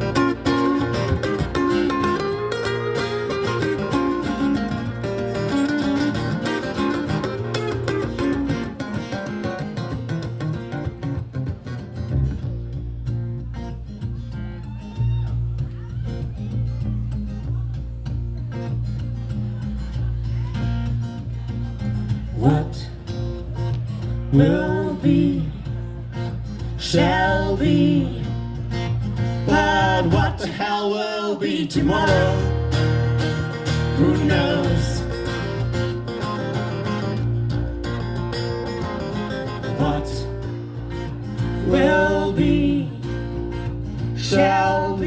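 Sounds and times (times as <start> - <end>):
deep bass line: 0.0 - 30.4, 31.8 - 45.0
baritone guitar with effects: 0.0 - 45.0.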